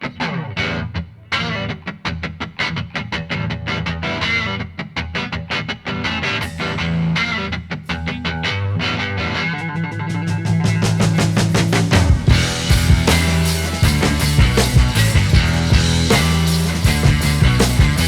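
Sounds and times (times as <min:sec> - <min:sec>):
rock music with electric guitar: 0:00.0 - 0:18.0.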